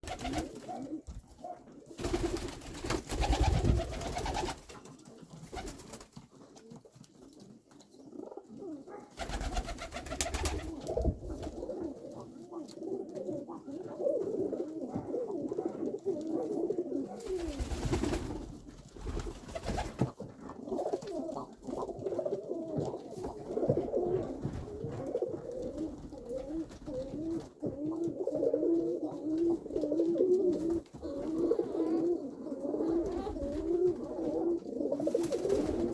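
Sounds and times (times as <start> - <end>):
pigeons cooing: 0.0 - 4.7, 8.0 - 18.4, 20.6 - 35.9.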